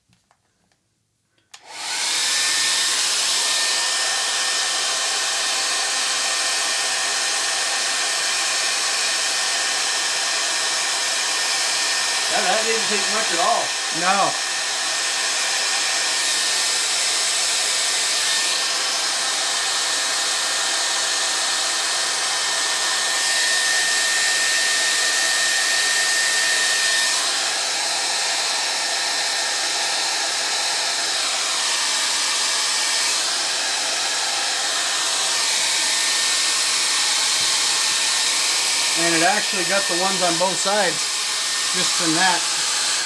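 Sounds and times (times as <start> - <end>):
hot-air blower running: 1.5 - 43.0.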